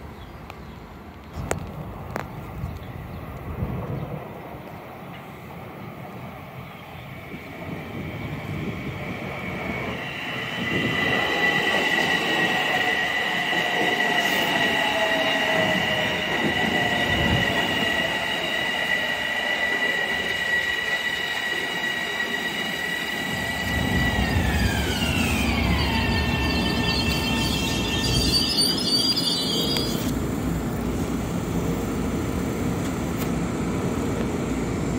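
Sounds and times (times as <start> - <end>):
train rumbling: 0.0 - 34.9
electric train whine: 0.6 - 34.9.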